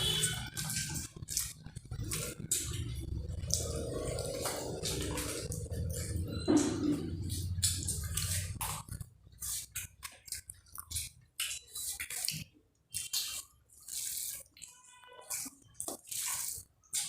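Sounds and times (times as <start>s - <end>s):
wet splashing and squelching: 0.0s - 17.0s.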